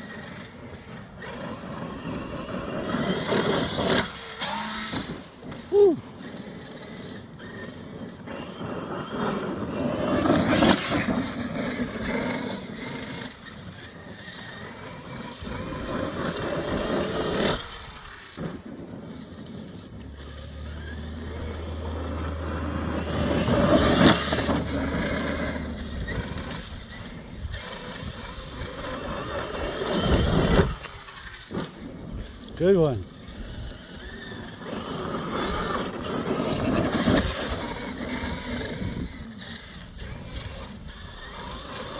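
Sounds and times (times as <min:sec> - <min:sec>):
electric rc truck driving: 0:00.0 - 0:41.9.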